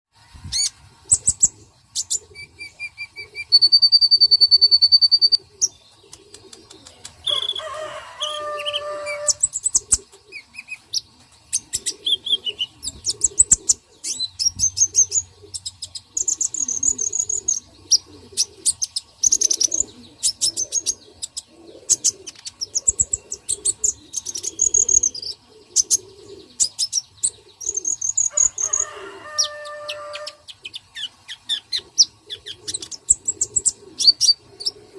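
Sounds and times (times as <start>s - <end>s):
soft repeated cooing: 0.2s - 30.8s, 31.4s - 34.9s
birds chirping: 0.3s - 34.9s.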